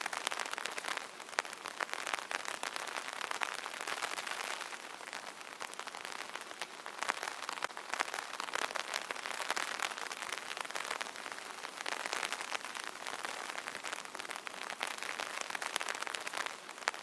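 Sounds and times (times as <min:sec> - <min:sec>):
rain pattering on umbrella: 0:00.0 - 0:17.0.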